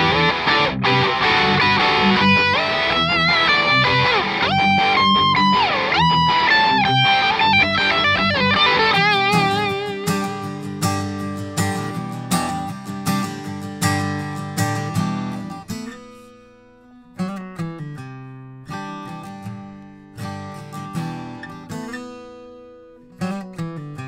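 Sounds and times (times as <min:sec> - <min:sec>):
acoustic guitar strumming: 0:00.0 - 0:24.0
electric guitar lead: 0:00.0 - 0:24.0.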